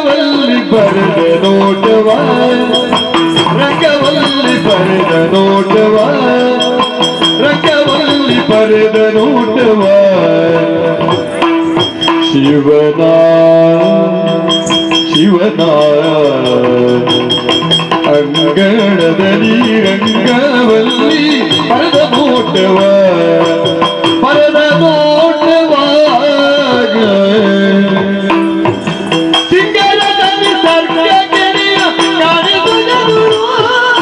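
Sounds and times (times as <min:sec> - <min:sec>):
ankle bells jingling: 0:00.0 - 0:34.0.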